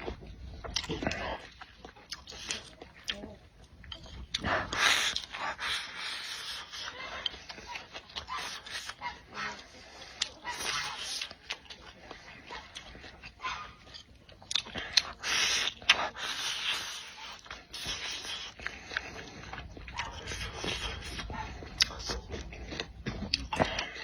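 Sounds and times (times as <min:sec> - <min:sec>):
chewing and wet mouth noises: 0:00.0 - 0:24.0.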